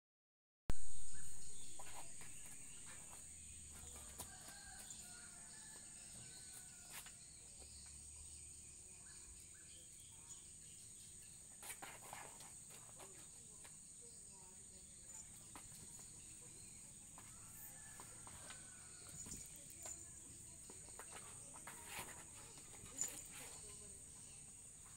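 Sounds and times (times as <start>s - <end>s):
faint chirps: 0.7s - 24.9s.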